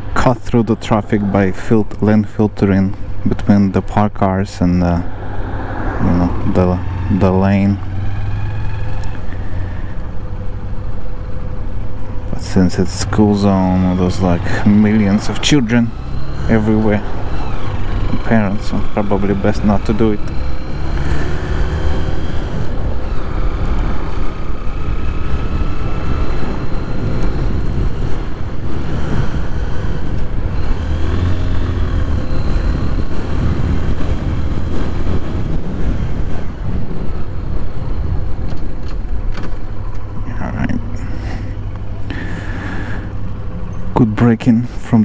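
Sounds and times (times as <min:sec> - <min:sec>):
wind rumbling on camera: 0:04.8 - 0:45.0.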